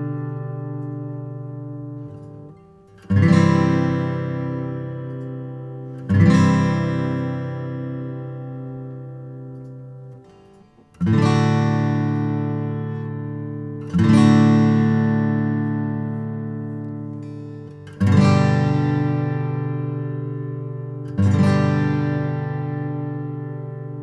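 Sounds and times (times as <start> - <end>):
acoustic guitar chords strummed: 0.0 - 24.0.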